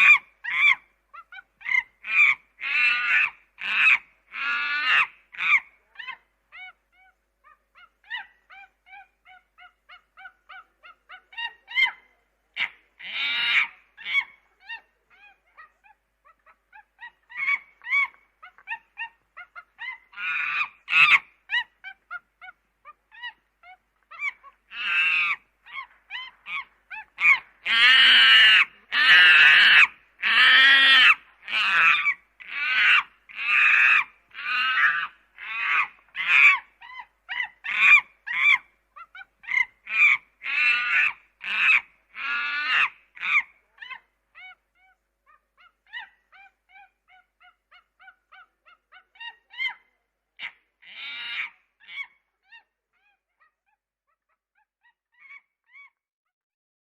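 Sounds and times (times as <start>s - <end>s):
monkey calling: 0.0s - 56.0s.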